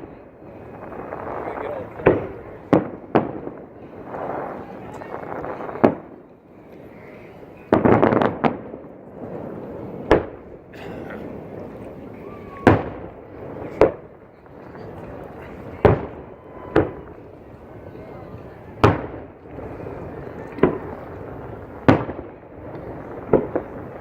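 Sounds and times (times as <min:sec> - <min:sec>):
fireworks bursting with bangs: 0:00.0 - 0:24.0
fireworks crackle: 0:00.0 - 0:24.0.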